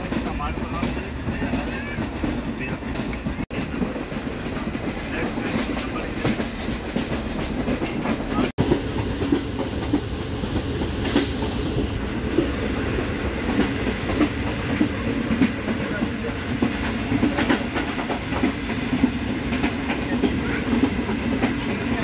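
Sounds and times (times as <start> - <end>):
clickety-clack over rail joints: 0.0 - 22.0
train wheels rumbling on rails: 0.0 - 22.0.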